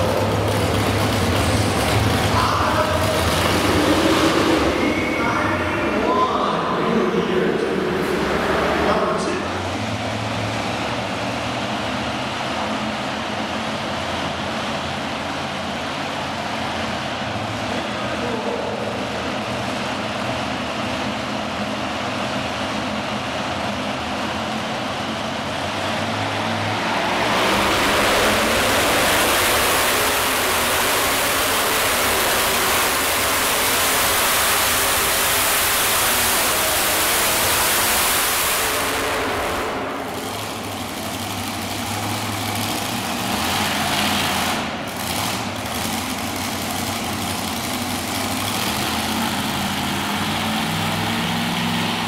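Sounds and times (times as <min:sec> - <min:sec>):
engine throttle blips: 0:00.0 - 0:52.0
tractor engine at full throttle: 0:00.0 - 0:52.0
tractor engine idling: 0:00.0 - 0:52.0.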